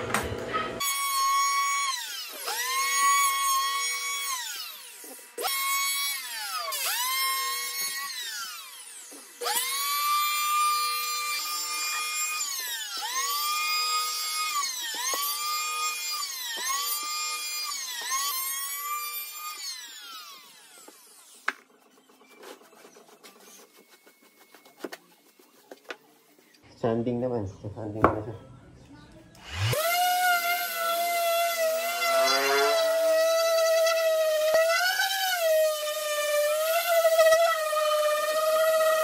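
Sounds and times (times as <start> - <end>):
electric planer cutting wood: 0.8 - 24.6, 29.4 - 39.0.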